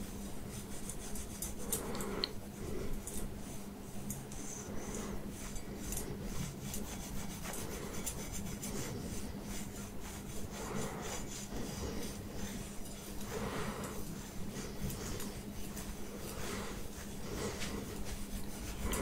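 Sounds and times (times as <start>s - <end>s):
faint steady hum: 0.0s - 19.0s
scalp massager rasping through hair: 0.0s - 19.0s.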